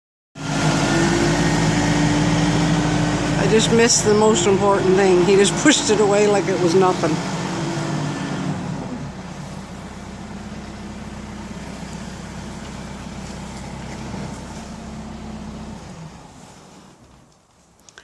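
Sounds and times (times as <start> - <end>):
vehicle engine humming: 0.4 - 17.8.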